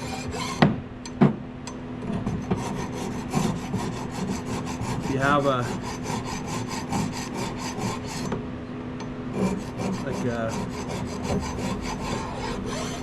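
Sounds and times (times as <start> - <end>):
hand file rasping on metal: 0.0 - 0.6, 2.2 - 8.4, 9.3 - 13.0.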